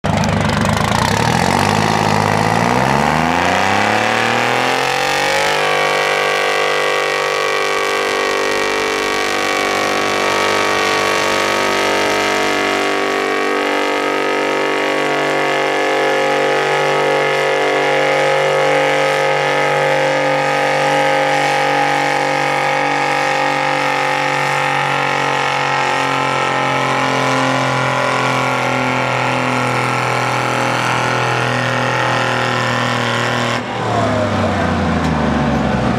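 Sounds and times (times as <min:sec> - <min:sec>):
tractor diesel engine revving: 0:00.0 - 0:35.9.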